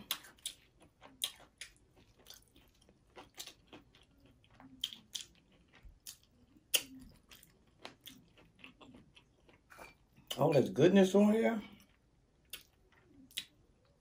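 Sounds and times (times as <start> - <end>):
wet mouth chewing sounds: 0.0 - 10.5, 11.7 - 14.0.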